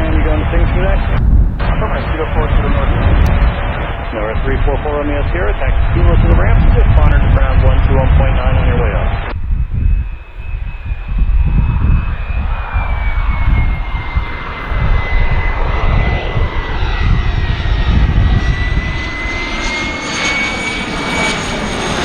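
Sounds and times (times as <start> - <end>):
heavy low rumble: 0.0 - 22.0
jet turbofan whine: 0.0 - 22.0.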